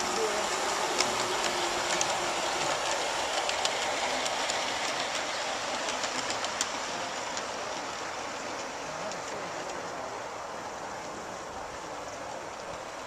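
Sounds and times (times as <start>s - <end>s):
wheels clicking on track: 0.0s - 13.0s.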